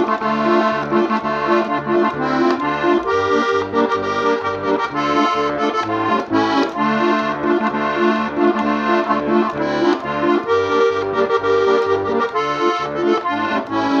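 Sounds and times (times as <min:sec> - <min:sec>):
accordion playing: 0:00.0 - 0:14.0.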